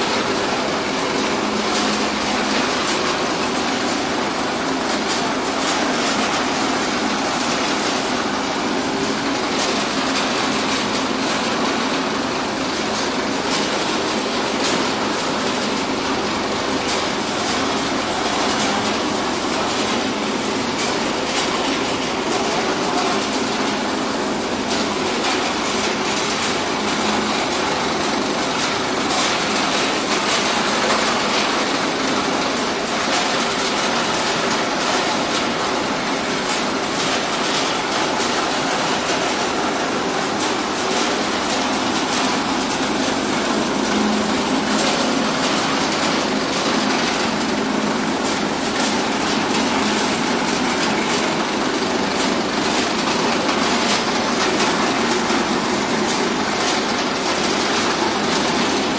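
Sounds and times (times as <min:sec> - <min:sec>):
machinery rattling and clicking: 0:00.0 - 0:58.9.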